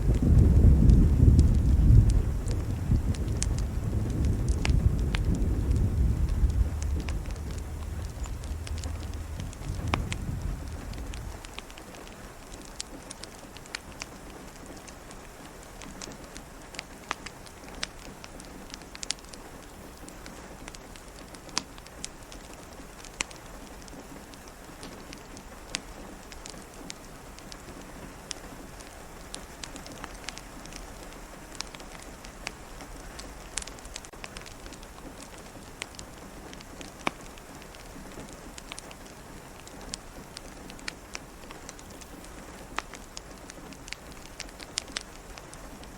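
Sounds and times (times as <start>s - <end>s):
steady rain: 0.0s - 45.9s
wood fire popping and crackling: 0.0s - 45.9s.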